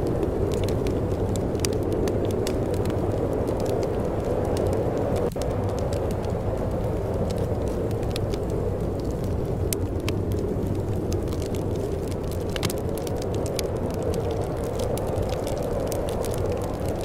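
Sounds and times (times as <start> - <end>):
low rush of wind: 0.0 - 17.0
wood fire crackling and popping: 0.0 - 17.0.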